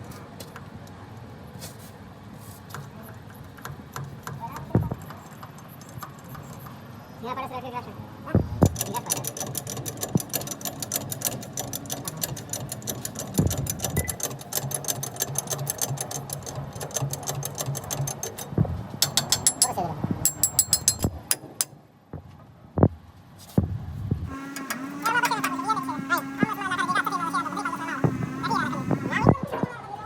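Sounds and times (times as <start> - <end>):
rapid mechanical tapping: 2.7 - 7.0, 8.4 - 23.0, 23.6 - 29.5.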